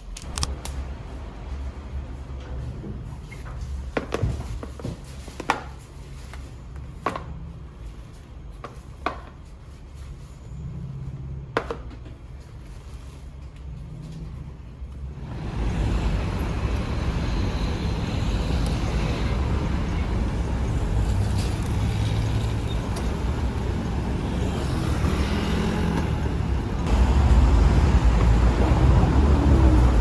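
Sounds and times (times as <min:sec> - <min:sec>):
vehicle road and engine rumble: 0:00.0 - 0:30.0.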